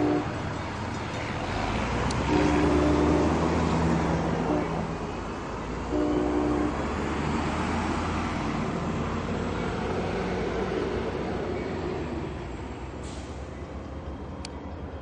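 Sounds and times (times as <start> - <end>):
train engine and wheels rumbling: 0.0 - 15.0.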